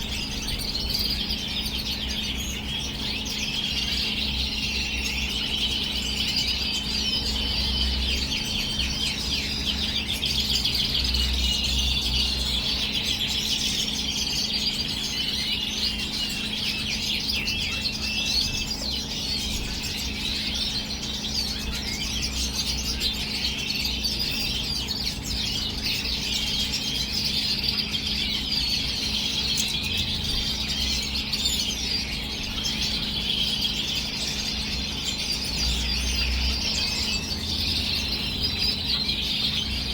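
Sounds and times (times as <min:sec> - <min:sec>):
finches twittering and chirping: 0:00.0 - 0:39.9
steady low hum: 0:00.0 - 0:39.9.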